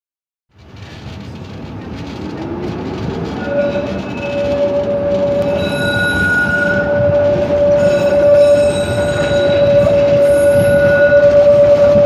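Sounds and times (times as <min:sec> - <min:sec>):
tram wheels squealing: 0:00.5 - 0:12.0
wheels rumbling on rails: 0:00.5 - 0:12.0.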